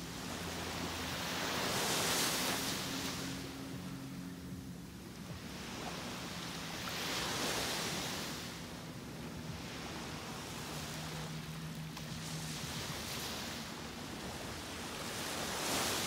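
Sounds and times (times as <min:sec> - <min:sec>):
waves washing onto sand: 0:00.0 - 0:04.4, 0:05.0 - 0:16.0.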